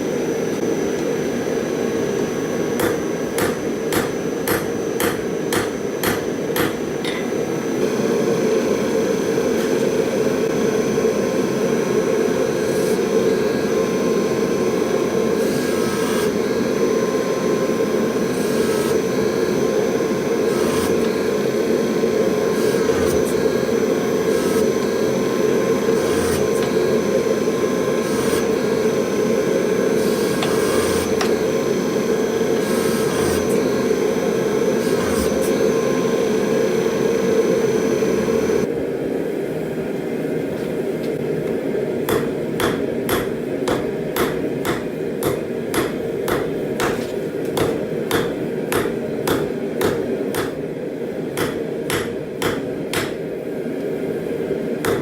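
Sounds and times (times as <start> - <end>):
gas forge burner roaring: 0.0 - 55.0.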